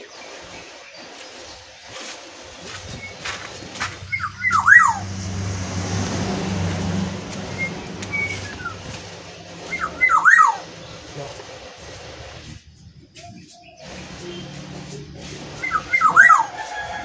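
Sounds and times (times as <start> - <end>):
bird calling with swooping notes: 0.0 - 17.0
low steady hum: 1.4 - 17.0.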